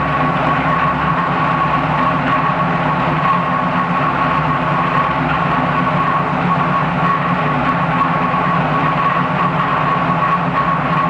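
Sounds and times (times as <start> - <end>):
engine running steadily: 0.0 - 11.0
high whine: 0.0 - 11.0.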